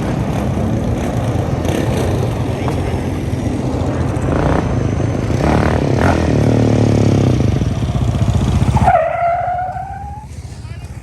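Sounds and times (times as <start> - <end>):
off-road engine running loud: 0.0 - 11.0.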